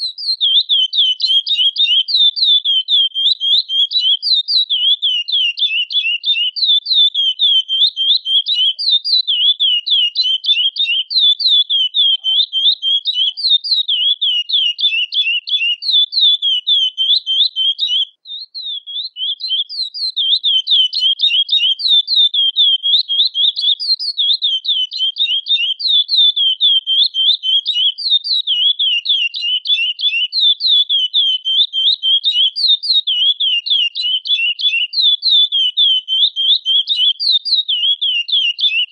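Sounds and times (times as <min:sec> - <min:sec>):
finch high chirping: 0:00.0 - 0:38.9.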